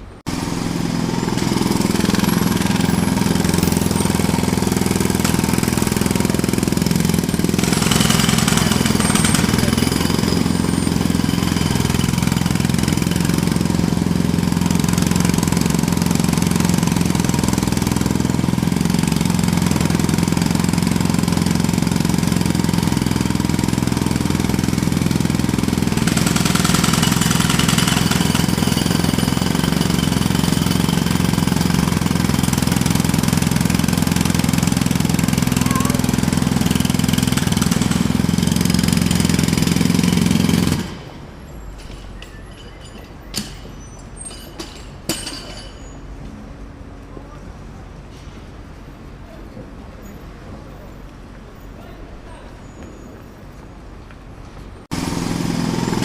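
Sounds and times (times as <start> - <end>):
jackhammer hammering: 0.2 - 41.2, 41.8 - 46.0, 54.9 - 56.0.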